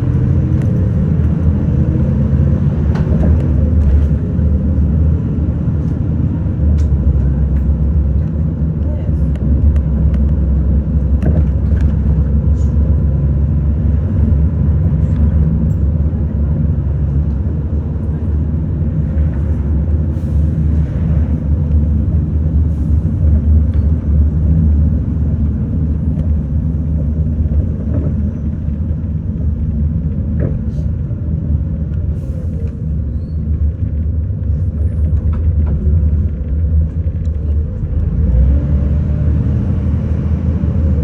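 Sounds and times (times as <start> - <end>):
bus engine rumble: 0.0 - 41.0.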